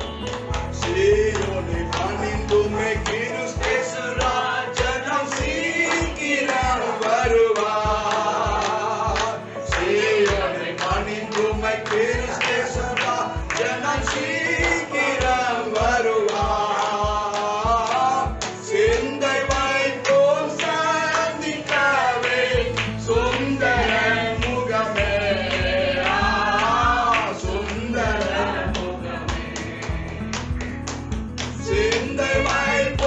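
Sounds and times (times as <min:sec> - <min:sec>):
gospel music with singing: 0:00.0 - 0:33.0.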